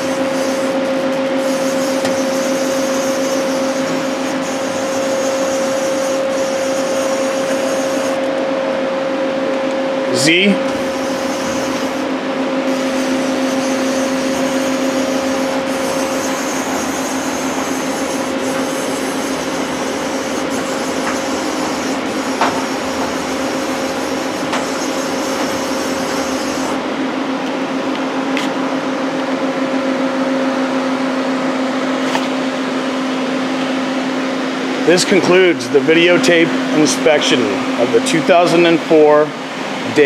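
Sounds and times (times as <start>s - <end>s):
lathe humming: 0.0s - 40.0s.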